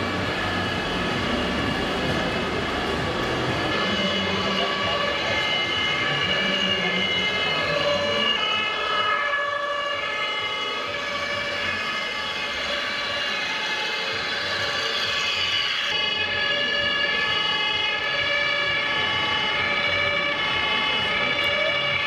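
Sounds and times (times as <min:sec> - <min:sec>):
toy fire truck sirens: 0:00.0 - 0:22.0.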